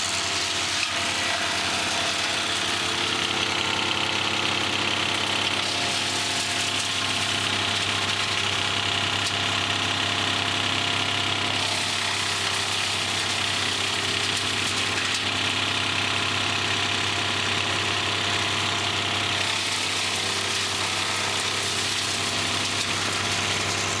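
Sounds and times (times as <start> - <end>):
wood chipper engine running: 0.0 - 24.0.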